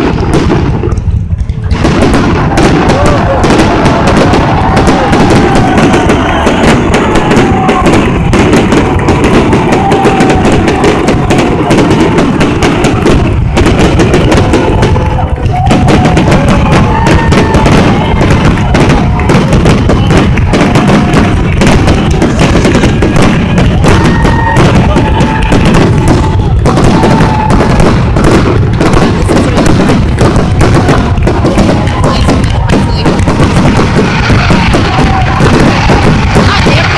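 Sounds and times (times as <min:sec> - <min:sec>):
fireworks booming and crackling: 0:00.0 - 0:36.9.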